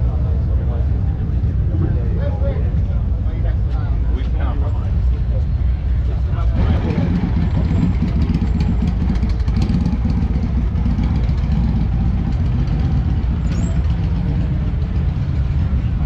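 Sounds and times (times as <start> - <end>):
motorcycle engines rumbling: 0.0 - 16.0.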